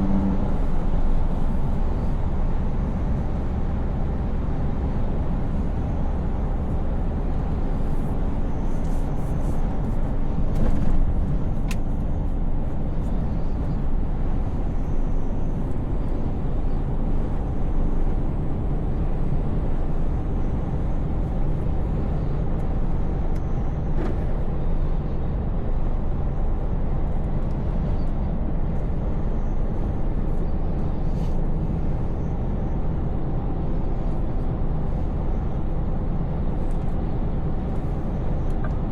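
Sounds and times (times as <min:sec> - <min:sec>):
road noise: 0:00.0 - 0:38.9
truck engine running: 0:00.0 - 0:38.9.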